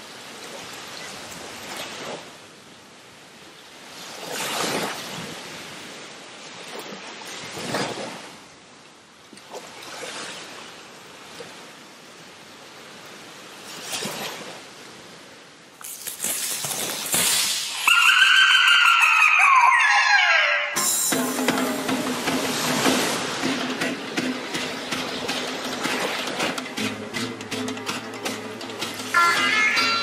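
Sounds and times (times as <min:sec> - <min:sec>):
ocean waves breaking: 0:03.3 - 0:08.6, 0:09.4 - 0:30.0.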